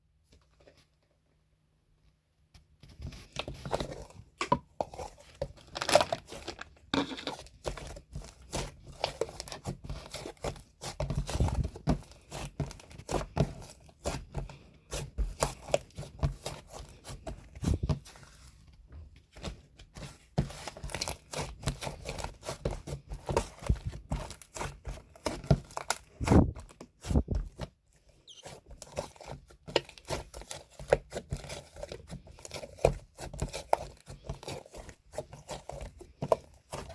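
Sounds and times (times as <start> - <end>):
crinkling and rustling: 2.6 - 36.9.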